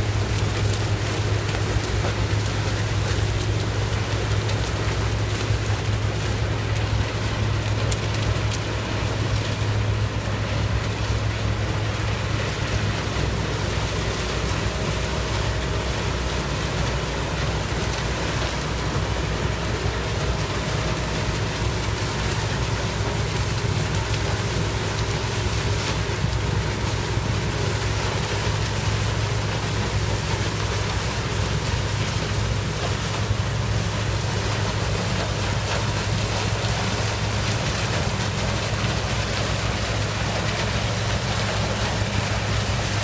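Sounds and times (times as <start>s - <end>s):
harvesting machinery engine drone: 0.0s - 43.0s.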